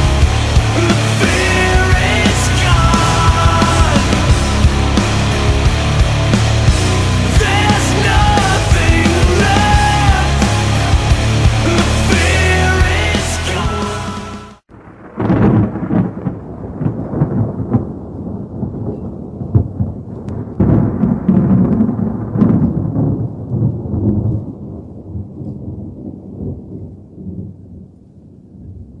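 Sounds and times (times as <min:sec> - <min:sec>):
rolling thunder: 0:00.0 - 0:13.2, 0:14.7 - 0:29.0.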